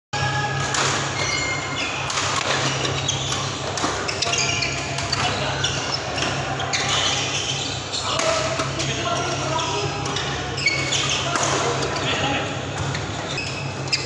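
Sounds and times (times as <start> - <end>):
shoes squeaking on court: 1.1 - 14.0.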